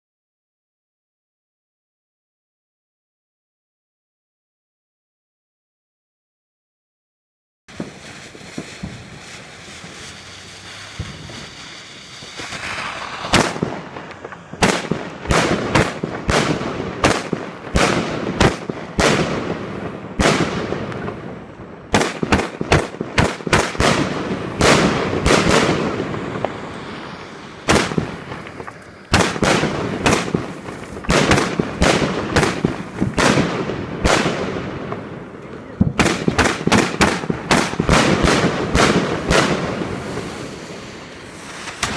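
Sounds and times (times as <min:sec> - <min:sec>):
fireworks crackling: 0:07.7 - 0:41.9
fireworks hiss: 0:07.7 - 0:41.9
fireworks shots and bursts: 0:07.7 - 0:41.9.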